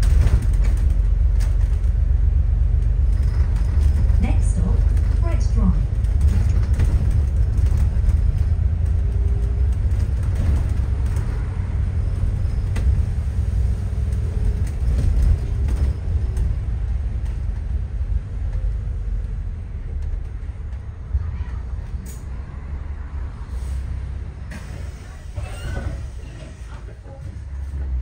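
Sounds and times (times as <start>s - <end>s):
bus engine rumble: 0.0s - 28.0s
road noise: 0.0s - 28.0s.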